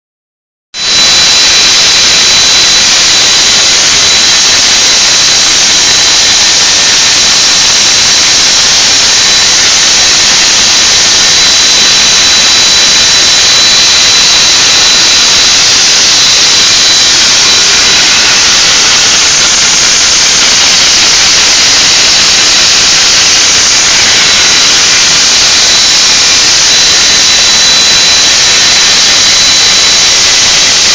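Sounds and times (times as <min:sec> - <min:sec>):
core drill high-pitched whine: 0:00.8 - 0:30.9.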